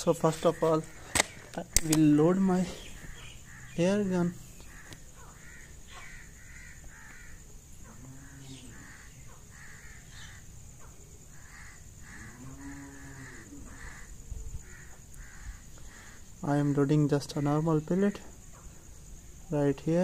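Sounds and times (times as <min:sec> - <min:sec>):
crows cawing: 0:00.0 - 0:10.6, 0:11.3 - 0:16.4, 0:17.2 - 0:17.8.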